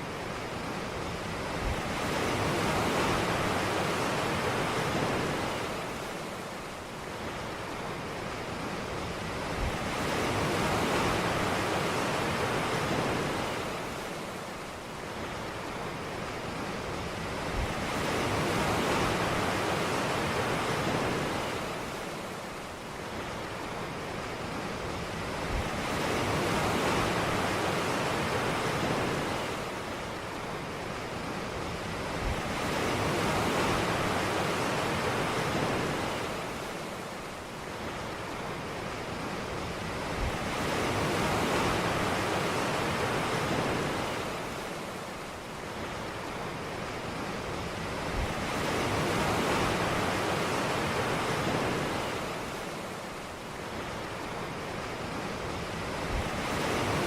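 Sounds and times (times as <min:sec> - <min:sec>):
ocean waves washing onto beach: 0:00.0 - 0:57.0.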